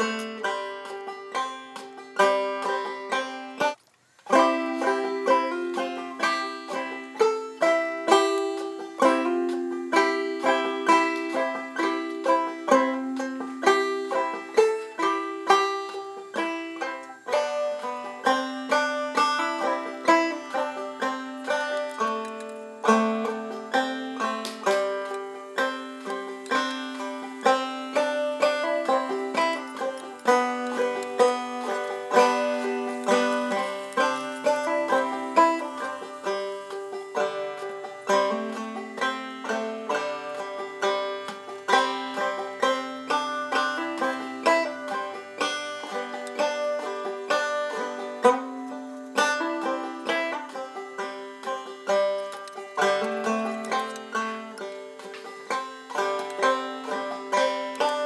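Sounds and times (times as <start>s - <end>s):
bluegrass banjo music: 0.0s - 58.0s.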